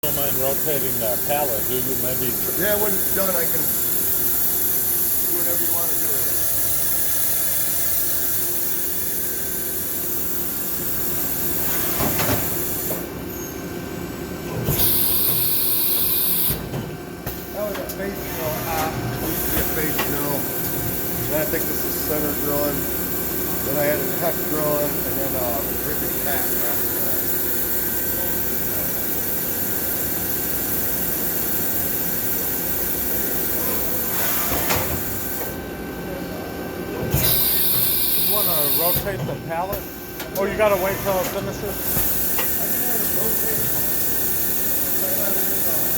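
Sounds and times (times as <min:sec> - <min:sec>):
faint machine hum: 0:00.0 - 0:45.9.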